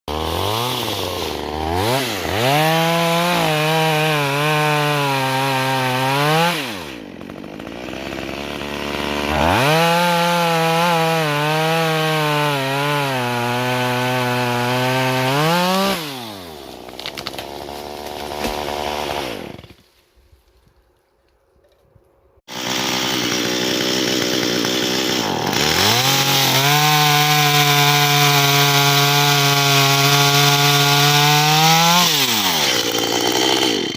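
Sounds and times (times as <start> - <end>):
chainsaw cutting wood: 0.1 - 19.9, 22.5 - 33.9.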